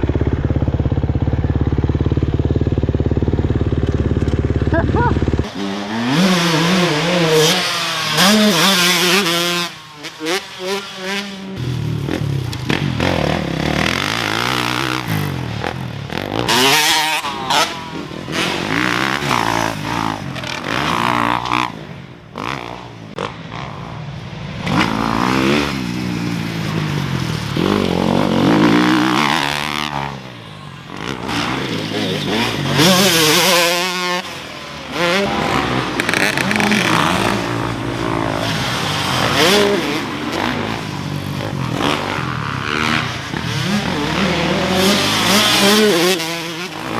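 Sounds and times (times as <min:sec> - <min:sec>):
two-stroke dirt bike engine revving: 0:00.0 - 0:46.9.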